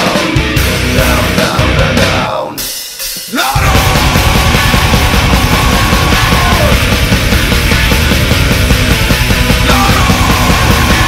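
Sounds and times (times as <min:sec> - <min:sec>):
heavy metal band playing: 0:00.0 - 0:11.0
pounding drums: 0:00.0 - 0:11.0.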